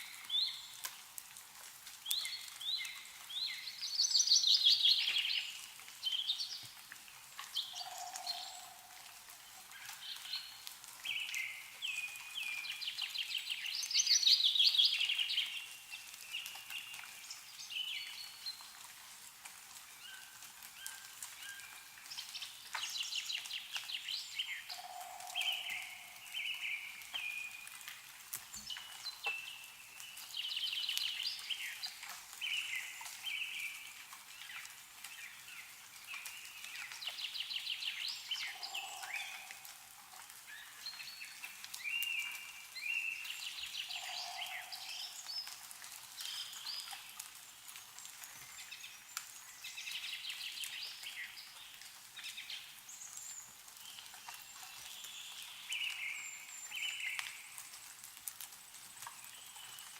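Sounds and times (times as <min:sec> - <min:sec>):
songbirds singing and calling: 0:00.0 - 0:00.8, 0:02.0 - 0:06.8, 0:07.4 - 0:18.8, 0:19.8 - 0:58.0, 0:59.0 - 0:59.9
meltwater dripping from trees: 0:00.0 - 0:59.9.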